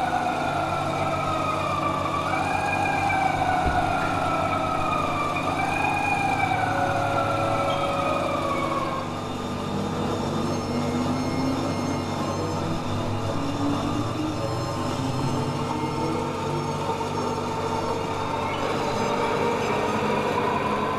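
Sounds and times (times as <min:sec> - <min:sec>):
pumpjack metal squealing: 0:00.0 - 0:20.9.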